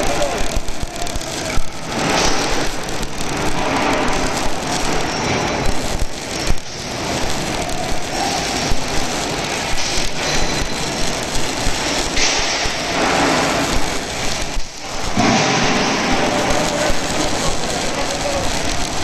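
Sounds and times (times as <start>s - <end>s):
welding arc crackling and sizzling: 0.0s - 19.0s.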